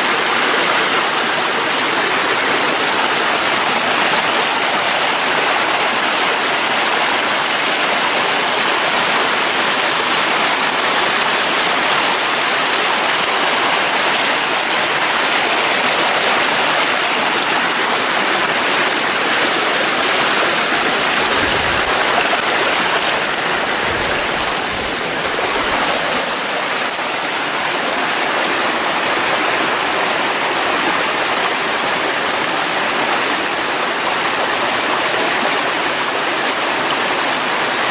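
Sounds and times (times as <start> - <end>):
small waterfall splashing: 0.0 - 37.9.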